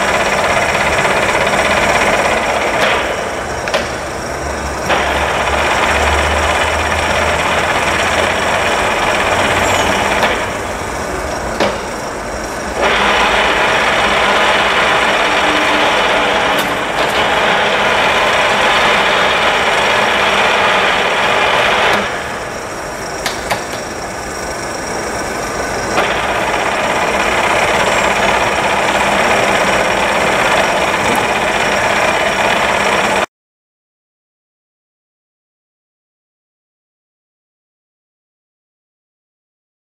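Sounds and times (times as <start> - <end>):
milling machine running: 0.0 - 33.3.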